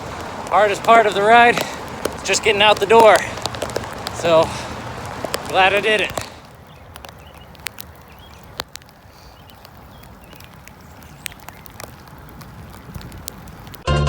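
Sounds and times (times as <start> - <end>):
clicks and knocks from bike: 0.0 - 13.8
bicycle tyres on wet road: 0.0 - 14.0.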